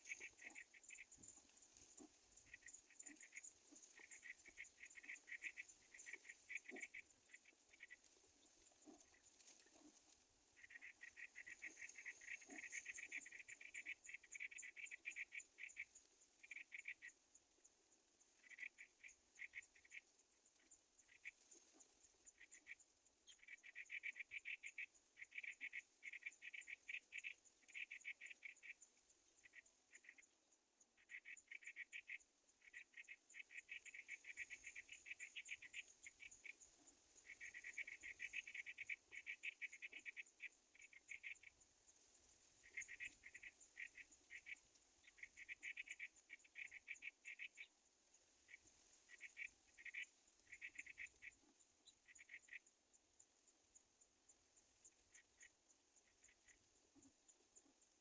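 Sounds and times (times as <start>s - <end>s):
rapid pulsed animal trills: 0.0s - 58.0s.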